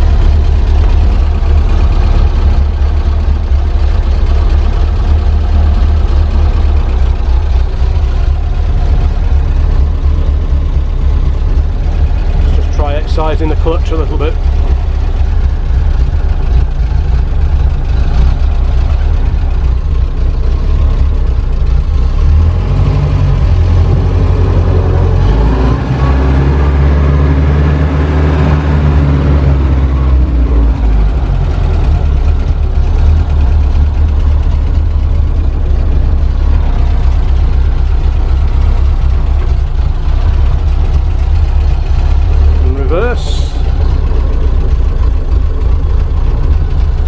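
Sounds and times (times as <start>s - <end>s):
truck engine running in low gear: 0.0s - 47.0s.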